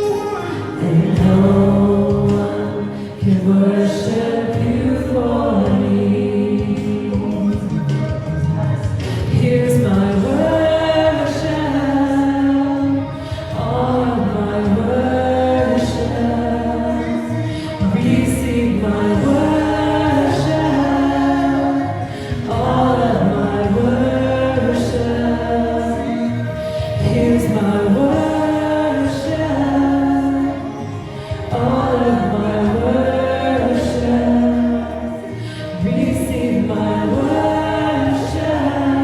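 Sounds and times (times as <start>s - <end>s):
group singing worship song: 0.0s - 39.0s
low musical backing: 0.0s - 39.0s.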